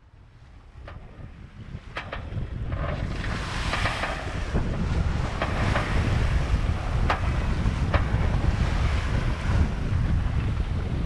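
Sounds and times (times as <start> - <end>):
rush of the sea: 0.0 - 11.0
wind buffeting microphone: 0.0 - 11.0.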